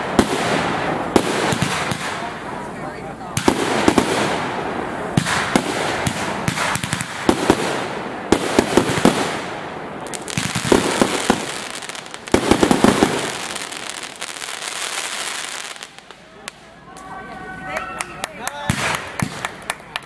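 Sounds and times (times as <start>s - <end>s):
fireworks bangs and pops: 0.0s - 16.7s, 18.7s - 20.0s
fireworks crackling: 0.0s - 20.0s.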